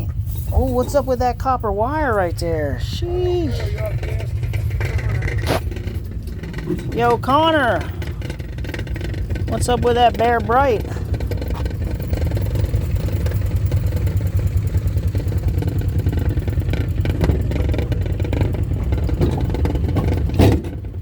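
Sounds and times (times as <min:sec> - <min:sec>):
engine clatter: 0:00.0 - 0:21.0
engine running: 0:00.0 - 0:21.0.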